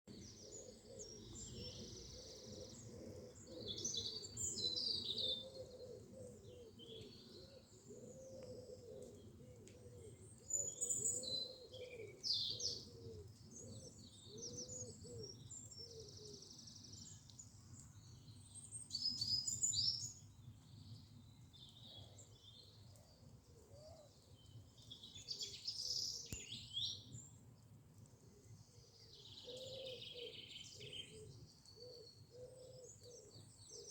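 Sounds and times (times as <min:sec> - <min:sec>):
wild birds singing: 0:00.1 - 0:33.9.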